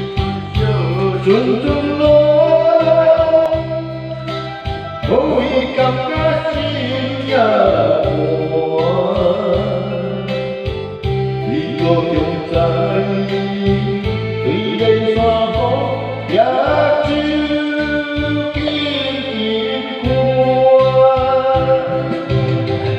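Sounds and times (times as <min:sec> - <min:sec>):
backing track with bass notes: 0:00.0 - 0:22.9
man singing karaoke: 0:00.0 - 0:22.9.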